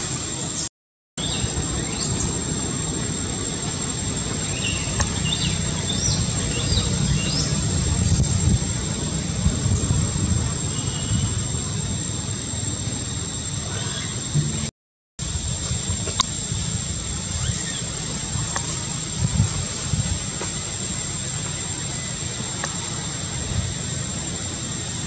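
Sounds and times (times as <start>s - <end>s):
insect drone: 0.0s - 25.0s
low rumbling noise: 1.2s - 25.0s.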